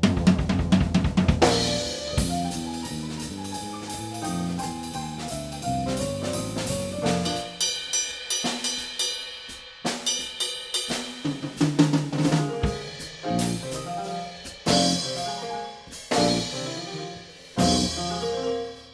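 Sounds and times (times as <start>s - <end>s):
drum hits: 0.0s - 7.6s, 11.0s - 18.9s
jazz combo playing: 0.0s - 7.8s, 11.4s - 18.9s.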